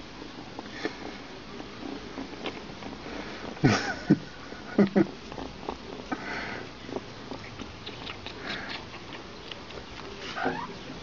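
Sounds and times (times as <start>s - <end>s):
soft rustling breaths: 0.0s - 11.0s
cat sniffing: 0.4s - 10.8s.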